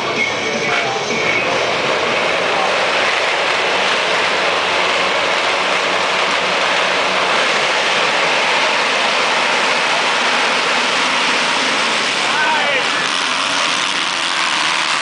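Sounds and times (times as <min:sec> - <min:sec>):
motocross bike engines running: 0:00.0 - 0:15.0.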